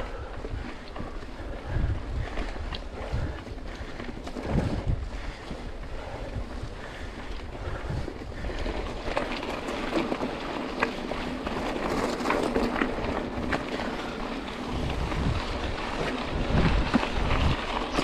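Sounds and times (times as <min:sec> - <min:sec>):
bike tyres crunching on gravel: 0:00.0 - 0:18.0
wind rumble on microphone: 0:00.0 - 0:18.0.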